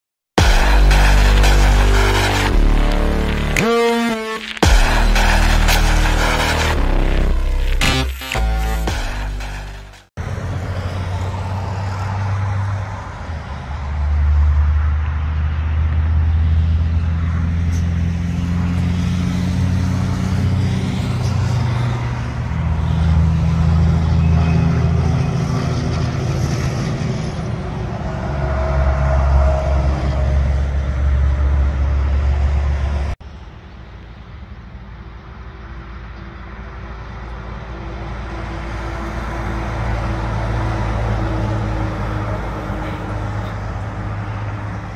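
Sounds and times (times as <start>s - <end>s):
trucks passing on highway: 0.4s - 44.9s.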